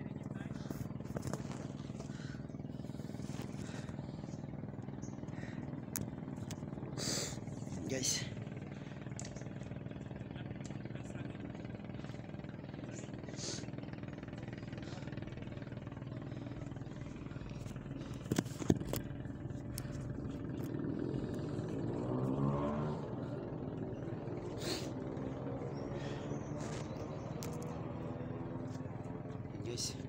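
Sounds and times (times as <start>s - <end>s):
motor engine running: 0.0s - 30.0s.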